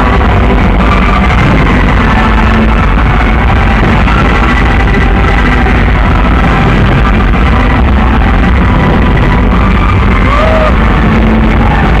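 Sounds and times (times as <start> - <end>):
loud distorted music: 0.0 - 12.0.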